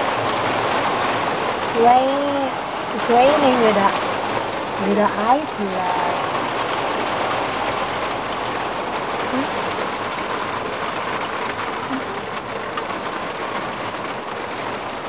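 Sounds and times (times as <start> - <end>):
hail and rain on glass skylight: 0.0 - 15.0.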